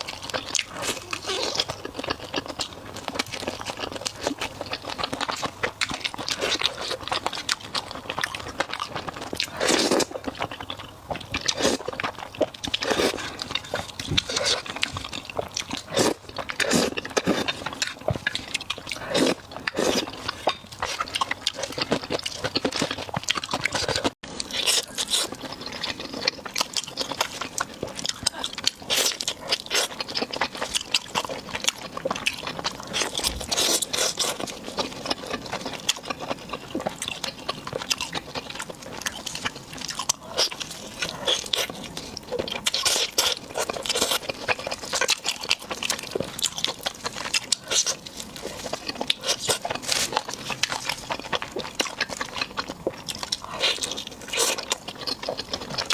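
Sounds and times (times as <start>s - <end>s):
person crunching and chewing food: 0.0s - 55.9s.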